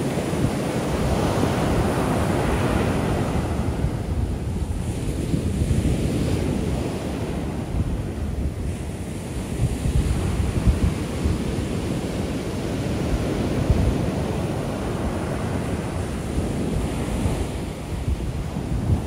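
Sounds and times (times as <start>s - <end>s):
waves breaking on beach: 0.0s - 19.0s
wind buffeting microphone: 0.0s - 19.0s.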